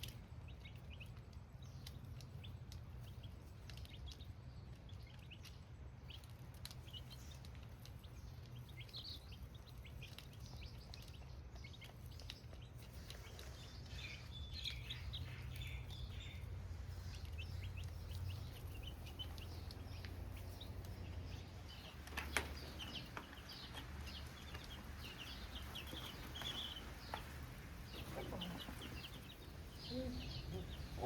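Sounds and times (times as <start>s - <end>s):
baby chicks cheeping: 0.0s - 31.0s.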